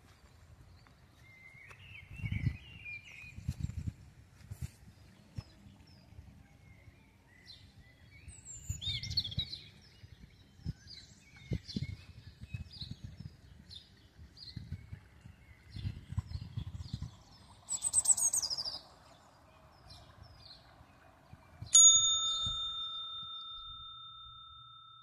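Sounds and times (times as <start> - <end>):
songbirds singing and chirping: 0.0 - 24.2.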